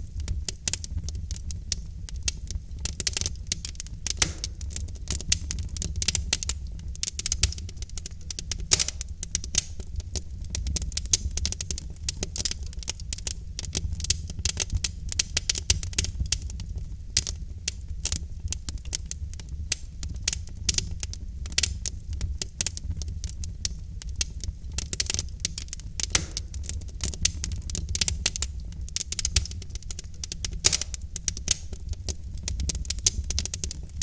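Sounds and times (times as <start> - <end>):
low rumble of fire: 0.0 - 34.0
logs crackling and popping: 0.1 - 34.0.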